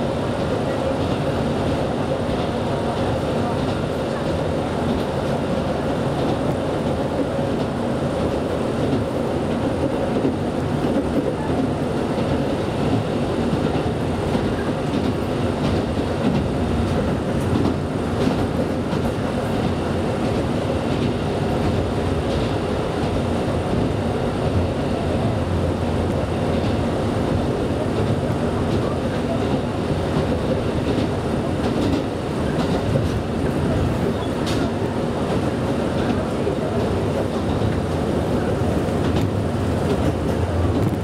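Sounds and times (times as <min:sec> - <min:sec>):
train engine and running noise: 0:00.0 - 0:41.0.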